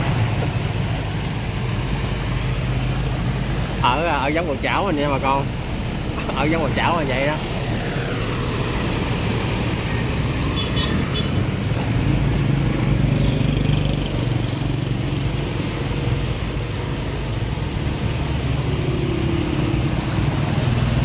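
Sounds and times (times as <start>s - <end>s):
tyres splashing through water: 0.0s - 21.0s
vehicle engines humming: 0.0s - 21.0s.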